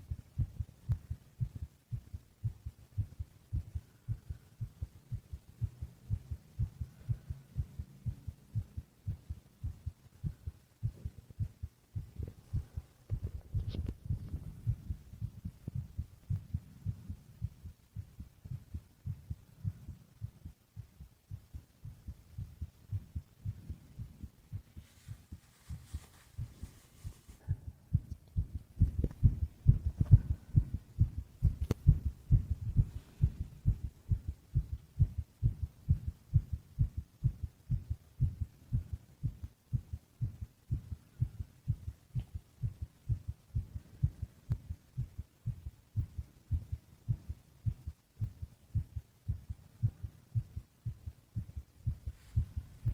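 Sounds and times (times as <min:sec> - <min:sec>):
heartbeat thumps: 0:00.0 - 0:52.9.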